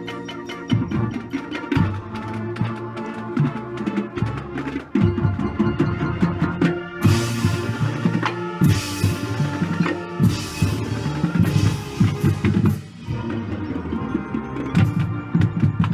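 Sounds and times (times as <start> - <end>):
wood-block-like beat: 0.0 - 15.9.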